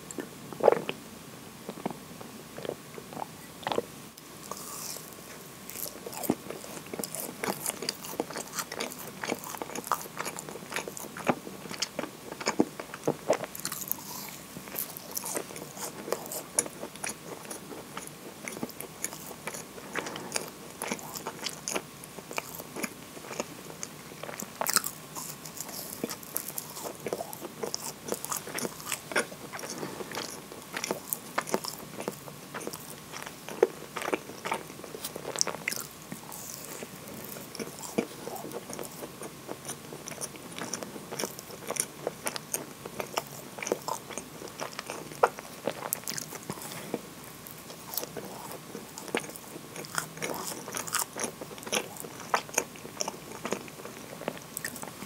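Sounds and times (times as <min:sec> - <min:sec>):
chewing scone crackles: 0:01.7 - 0:55.0.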